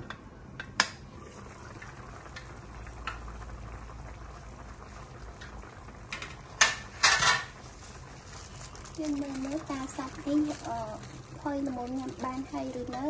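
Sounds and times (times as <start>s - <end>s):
soup bubbling: 1.0s - 13.0s.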